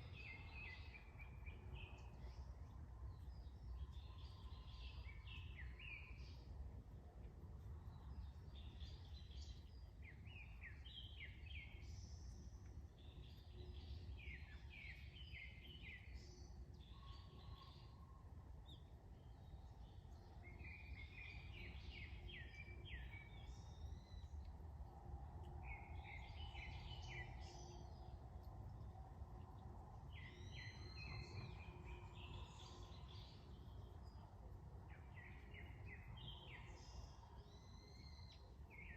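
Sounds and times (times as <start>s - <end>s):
faint low outdoor rumble: 0.0s - 38.9s
songbirds chirping: 0.0s - 38.9s.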